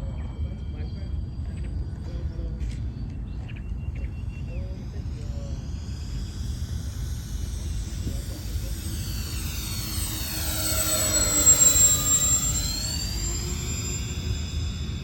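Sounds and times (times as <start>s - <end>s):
model plane motors whining: 0.0s - 15.0s
steady low rumble: 0.0s - 15.0s.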